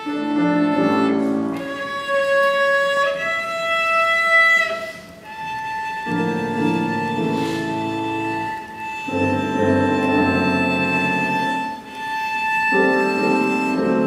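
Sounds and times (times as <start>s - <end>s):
cello bowed notes: 0.0s - 14.0s
piano playing: 0.0s - 14.0s.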